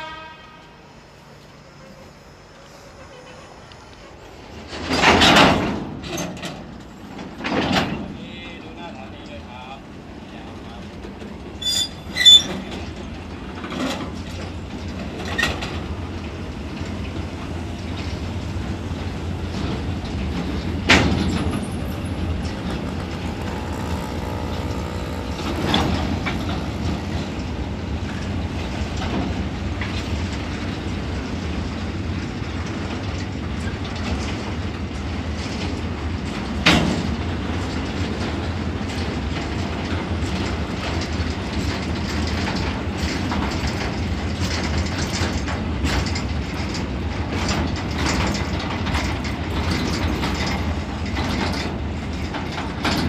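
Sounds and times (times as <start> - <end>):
train wagons rumbling on track: 0.0 - 53.0.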